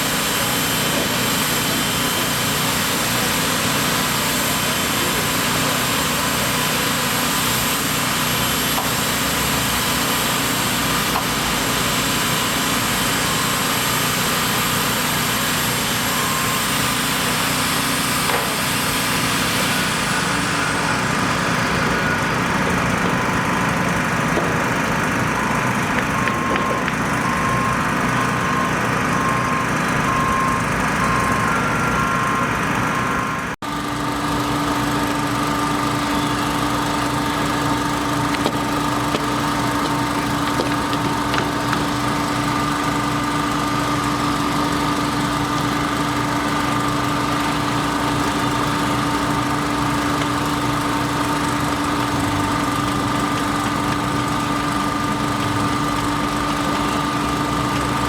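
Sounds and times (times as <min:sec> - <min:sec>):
construction machine engine running: 0:00.0 - 0:58.0.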